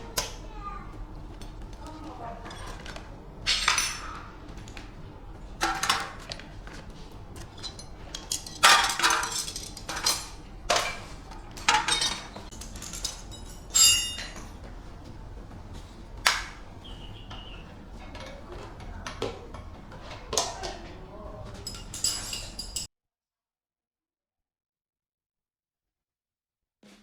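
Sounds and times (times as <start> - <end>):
metallic clinks and knocks: 1.1 - 22.9.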